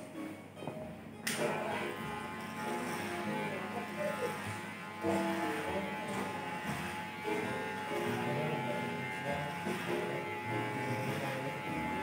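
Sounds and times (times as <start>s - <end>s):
electric hair clippers buzzing: 1.2s - 12.0s.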